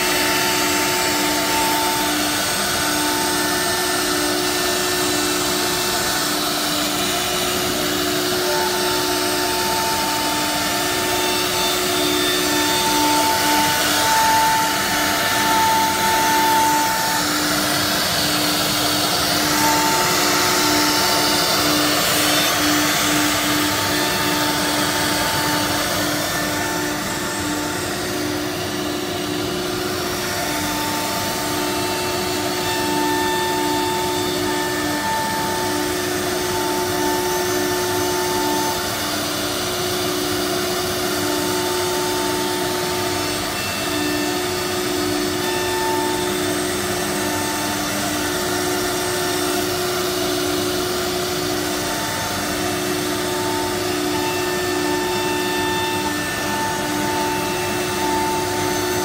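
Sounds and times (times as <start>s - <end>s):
router spindle whine: 0.0s - 59.0s.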